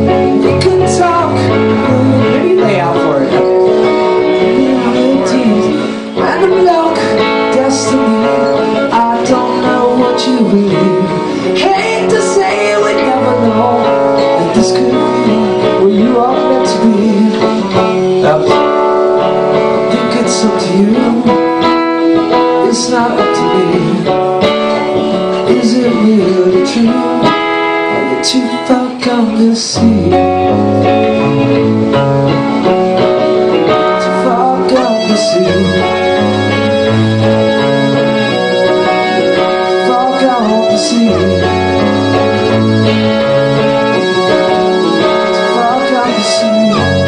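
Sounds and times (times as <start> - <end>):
rock band playing: 0.0 - 47.0.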